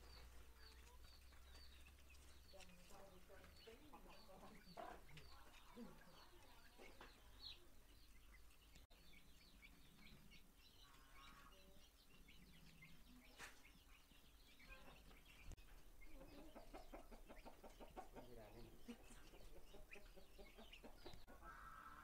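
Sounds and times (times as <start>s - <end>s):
faint birds chirping: 0.0s - 22.0s.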